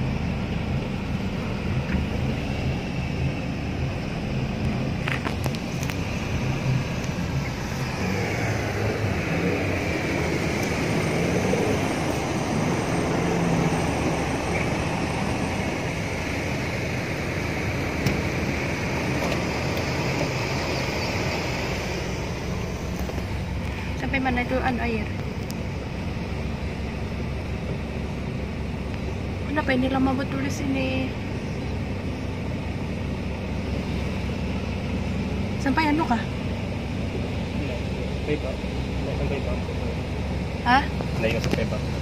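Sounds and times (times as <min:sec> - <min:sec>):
car engine running: 0:00.0 - 0:42.0.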